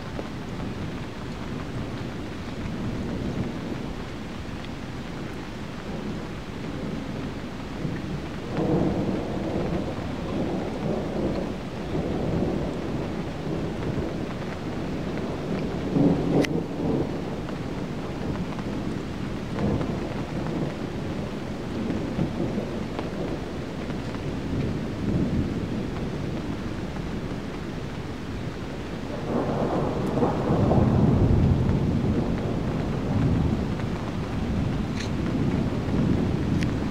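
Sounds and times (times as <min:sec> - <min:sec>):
steady rain: 0:00.0 - 0:36.9
thunder rumbling: 0:00.1 - 0:36.9.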